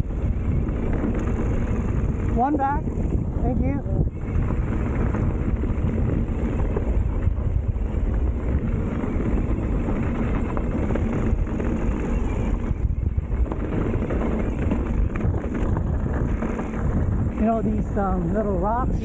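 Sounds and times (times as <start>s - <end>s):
bike tyre noise on dirt trail: 0.0s - 19.0s
wind rushing over microphone: 0.0s - 19.0s.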